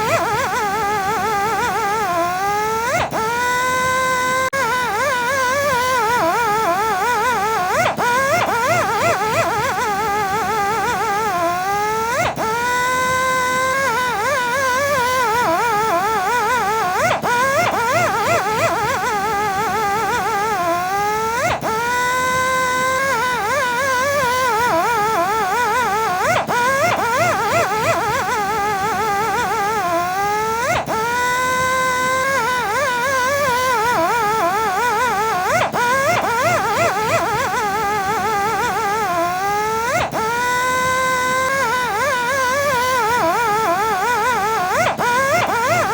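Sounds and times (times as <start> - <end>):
polishing machine motor whine: 0.0 - 45.9.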